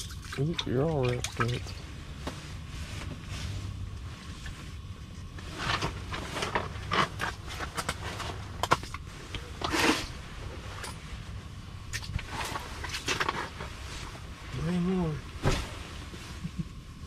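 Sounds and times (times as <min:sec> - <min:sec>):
steady low rumble: 0:00.0 - 0:17.0
rustling of heavy clothing: 0:01.9 - 0:11.4, 0:12.2 - 0:16.6.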